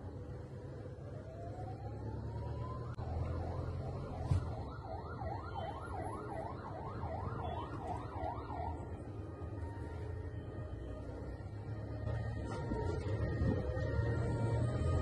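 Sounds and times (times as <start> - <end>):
siren yelping: 1.2 - 15.0.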